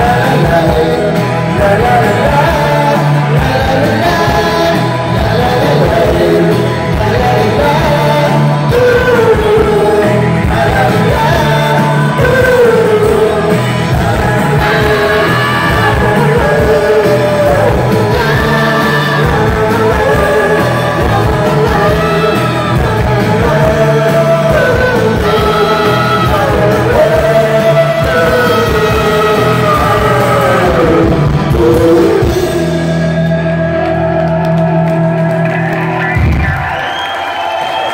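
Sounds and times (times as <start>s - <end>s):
person singing: 0.0s - 36.6s
rock band playing live: 0.0s - 37.9s.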